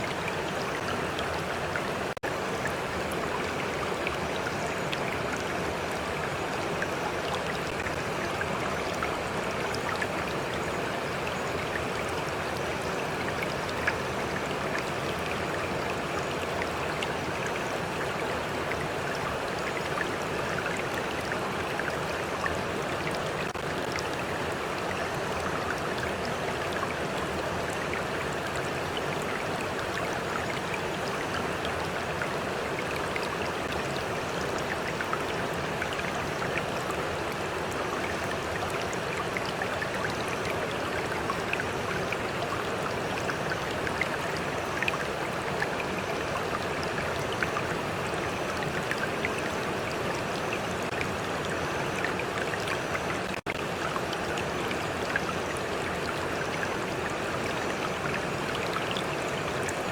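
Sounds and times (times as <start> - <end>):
stream running over rocks: 0.0 - 59.9
water splashes and drips: 0.0 - 59.9.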